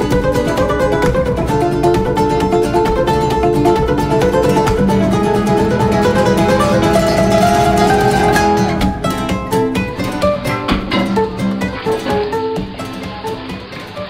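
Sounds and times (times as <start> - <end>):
acoustic guitar melody: 0.0 - 14.0.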